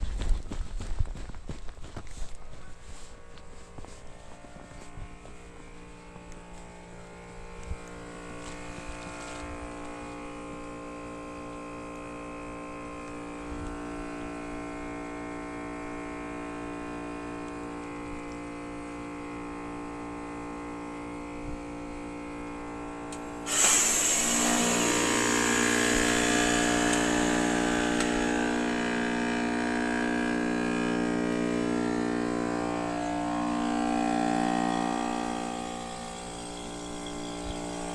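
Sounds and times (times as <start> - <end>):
heat pump compressor hum: 0.0 - 37.9.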